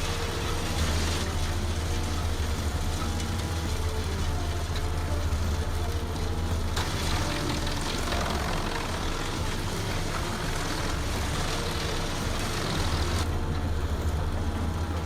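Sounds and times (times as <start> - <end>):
deep engine hum: 0.0 - 15.0
wood being worked: 0.0 - 15.0.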